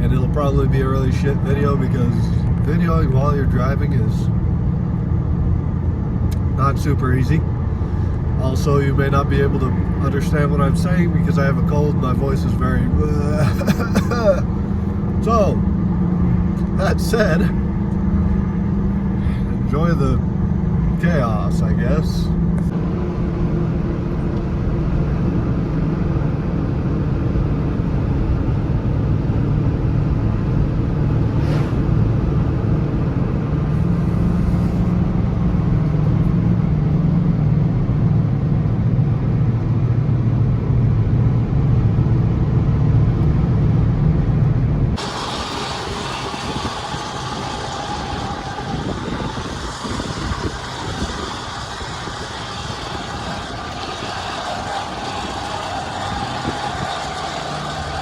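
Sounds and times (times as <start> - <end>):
quieter vehicle noise: 0.0 - 58.0
truck engine and road drone: 0.0 - 58.0.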